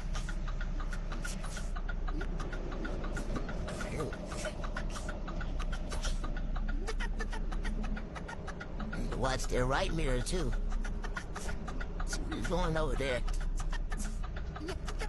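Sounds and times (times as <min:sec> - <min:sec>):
fast steady ticking: 0:00.0 - 0:15.0.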